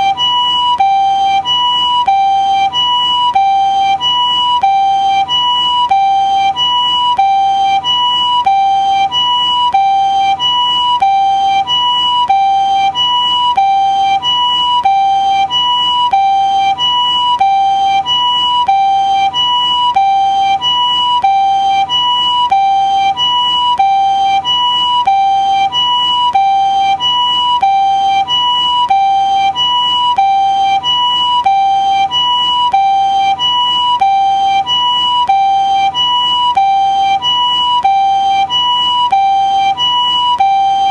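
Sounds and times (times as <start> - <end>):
ambulance two-tone siren: 0.0 - 40.9.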